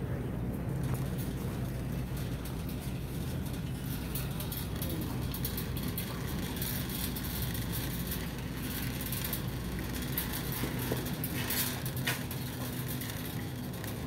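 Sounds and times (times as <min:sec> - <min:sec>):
shopping cart wheels rumbling: 0:00.0 - 0:14.0
cart rattling clicks: 0:00.8 - 0:14.0.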